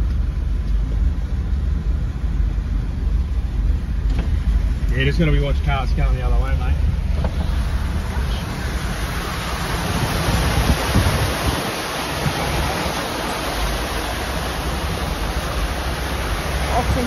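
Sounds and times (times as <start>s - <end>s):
floodwater rushing through culvert: 0.0s - 17.0s.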